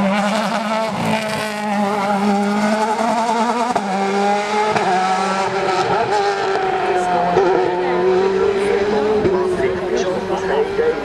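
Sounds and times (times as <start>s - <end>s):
race car accelerating hard: 0.0s - 11.0s.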